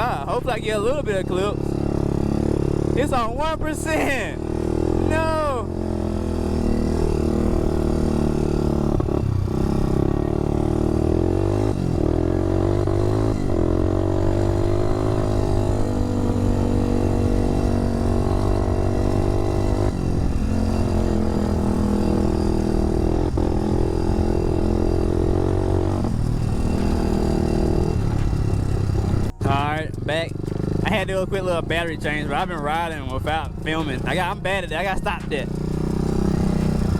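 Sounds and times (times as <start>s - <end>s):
quad bike engine running: 0.0s - 36.9s.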